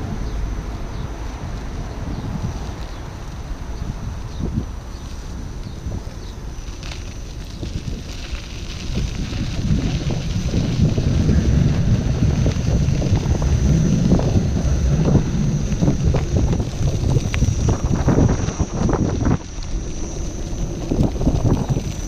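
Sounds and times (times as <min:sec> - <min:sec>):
wind buffeting microphone: 0:00.0 - 0:22.0
tyre rolling on gravel: 0:01.6 - 0:22.0.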